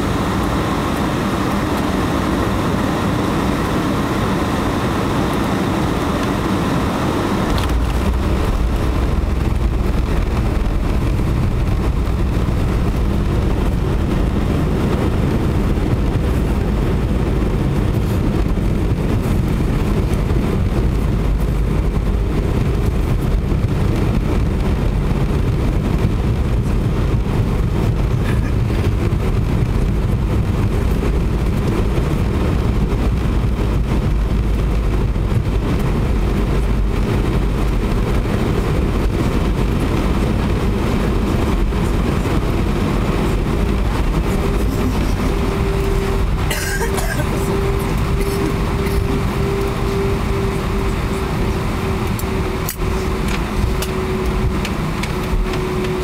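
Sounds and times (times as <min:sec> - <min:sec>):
aircraft rolling on runway rumble: 0:00.0 - 0:56.0.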